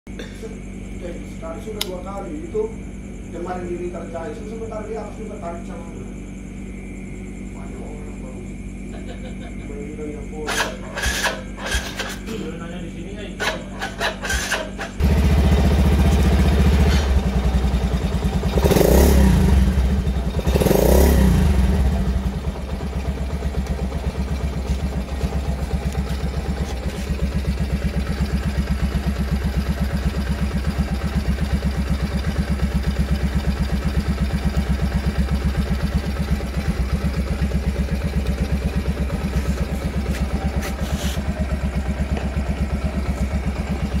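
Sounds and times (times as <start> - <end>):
minibike engine starting and idling: 0.6 - 44.0.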